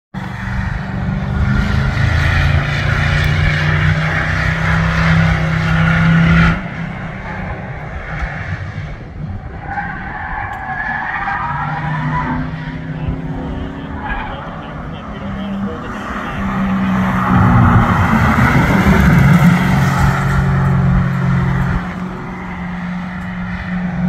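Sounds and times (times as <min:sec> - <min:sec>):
race car engine revving high: 0:00.2 - 0:10.0, 0:10.6 - 0:24.0
distant car running: 0:00.2 - 0:24.0.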